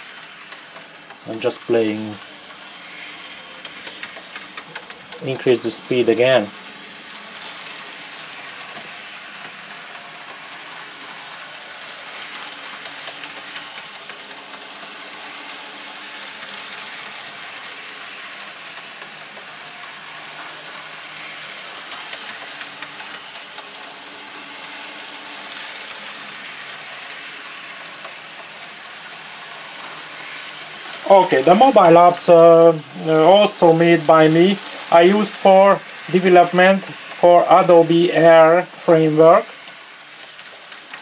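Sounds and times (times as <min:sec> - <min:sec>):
model train motors whirring: 0:00.0 - 0:41.0.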